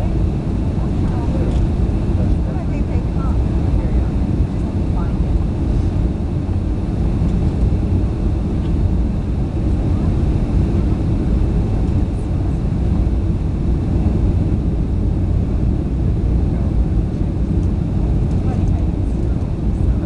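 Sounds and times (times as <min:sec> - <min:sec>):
jet airliner cabin rumble: 0:00.0 - 0:20.0.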